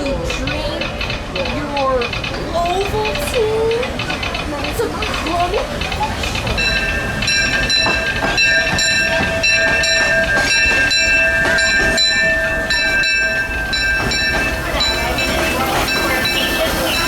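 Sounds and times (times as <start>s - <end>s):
steam locomotive bell ringing: 0.0s - 17.0s.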